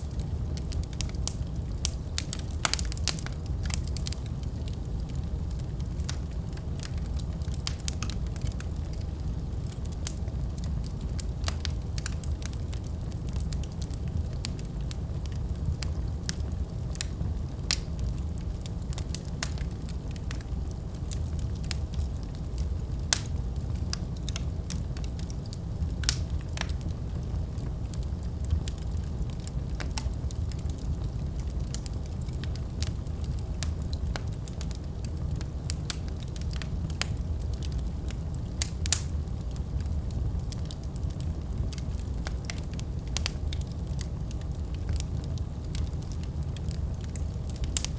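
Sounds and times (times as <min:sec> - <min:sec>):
wood fire roaring and crackling: 0:00.0 - 0:47.9.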